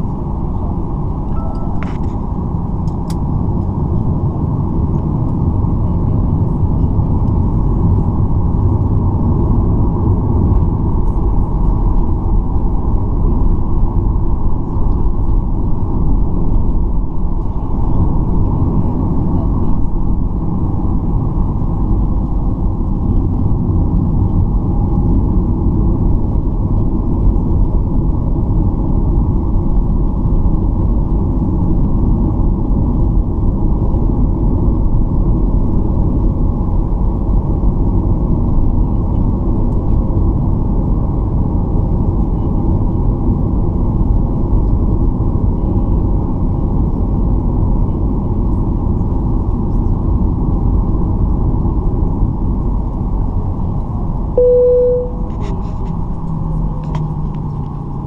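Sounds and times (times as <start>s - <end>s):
airplane cabin rumble while taxiing: 0.0s - 58.0s.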